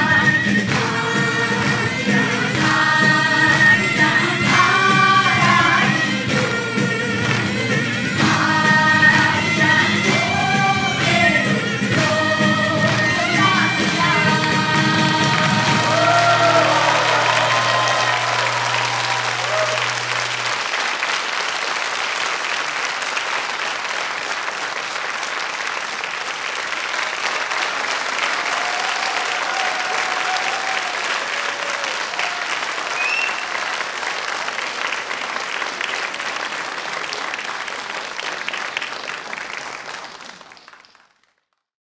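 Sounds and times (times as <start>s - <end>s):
audience applauding: 0.2s - 41.7s.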